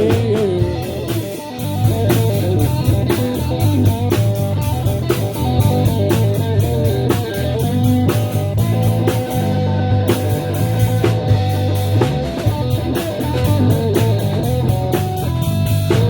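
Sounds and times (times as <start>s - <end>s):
bass guitar: 0.0s - 16.0s
drums with steady beat: 0.0s - 16.0s
electric guitar: 0.0s - 16.0s.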